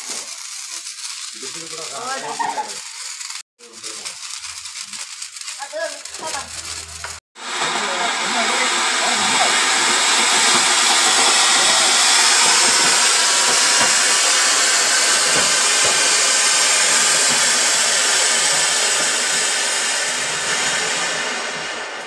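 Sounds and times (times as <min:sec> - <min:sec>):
fountain firework hissing: 0:00.0 - 0:22.0.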